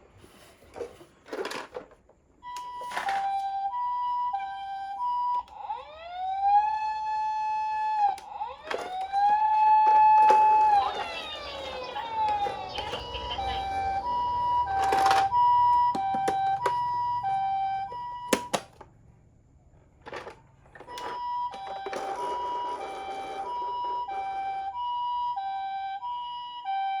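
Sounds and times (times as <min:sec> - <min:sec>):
toy ambulance siren: 0:02.4 - 0:18.9, 0:20.0 - 0:27.0.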